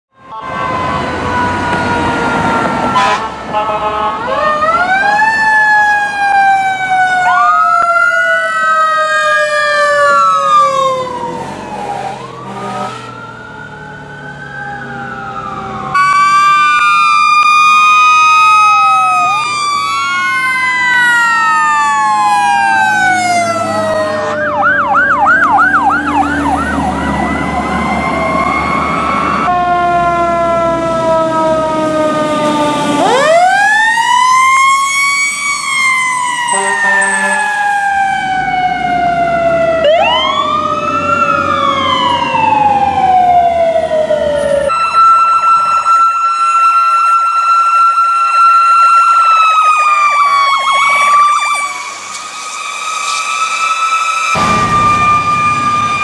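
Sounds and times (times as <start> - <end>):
sirens wailing: 0.1 - 56.0
siren fast yelp: 4.2 - 30.6, 31.3 - 56.0.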